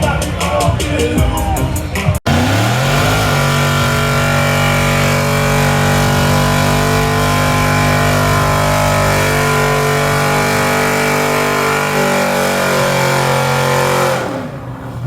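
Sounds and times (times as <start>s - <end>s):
truck engine revving high: 1.9s - 15.0s.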